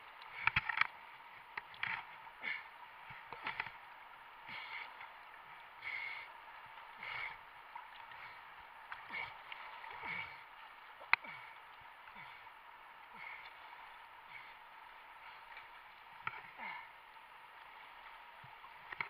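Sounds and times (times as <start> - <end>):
river water sloshing and gurgling: 0.0 - 19.0.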